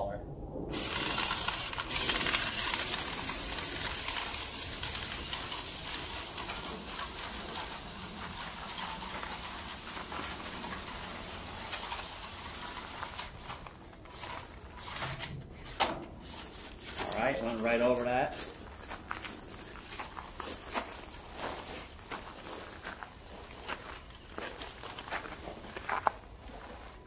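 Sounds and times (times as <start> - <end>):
tyres crunching over gravel: 0.8 - 14.8, 16.1 - 27.0.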